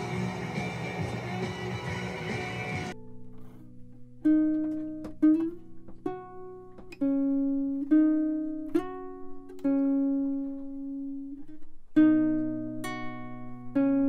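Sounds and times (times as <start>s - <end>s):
guitar picking single notes: 0.0s - 14.0s.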